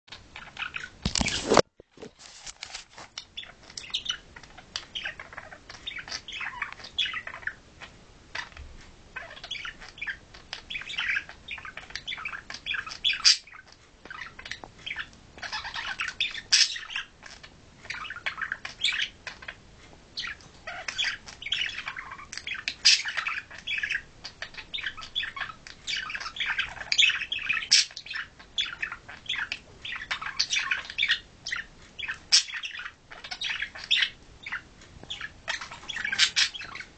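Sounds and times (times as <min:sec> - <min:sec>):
budgerigars chattering: 0:03.4 - 0:08.6, 0:09.2 - 0:19.6, 0:20.2 - 0:36.9.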